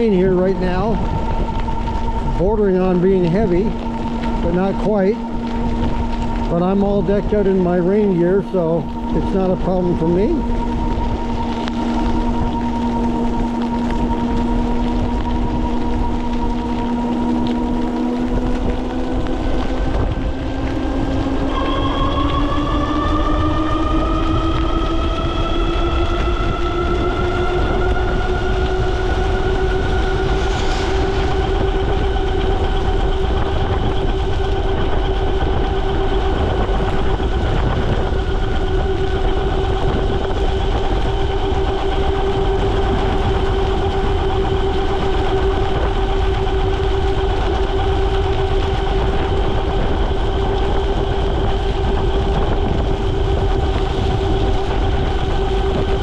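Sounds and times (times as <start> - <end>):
tyres on wet road: 0.0 - 56.0
wind rushing: 0.0 - 56.0.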